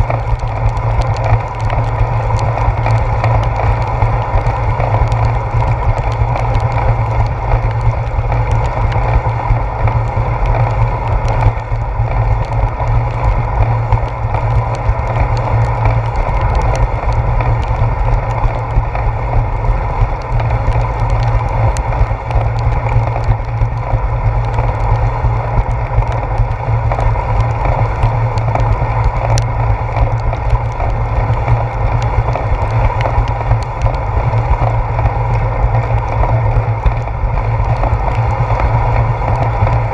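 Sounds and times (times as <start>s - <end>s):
bicycle tyre noise on concrete: 0.0s - 39.9s
wind rumble: 0.0s - 39.9s.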